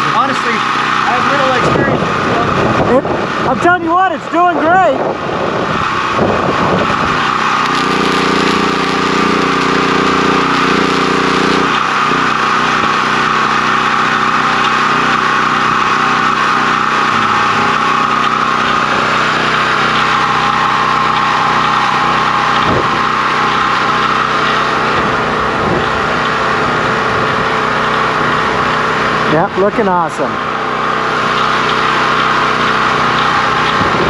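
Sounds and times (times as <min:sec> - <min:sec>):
generator engine running: 0:00.0 - 0:34.0
welding arc: 0:00.0 - 0:34.0.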